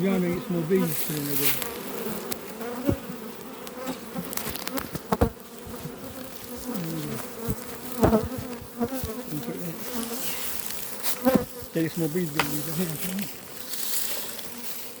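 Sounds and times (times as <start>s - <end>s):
bees buzzing: 0.0s - 15.0s
single bee passing close: 0.0s - 15.0s.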